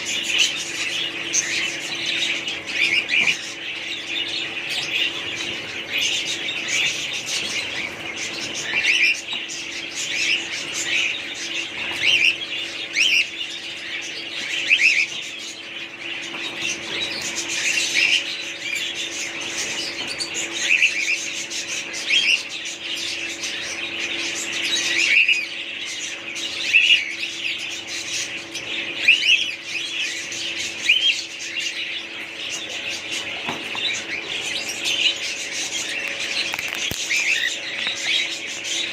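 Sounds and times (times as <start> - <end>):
parrots chirping and squawking: 0.0 - 38.9.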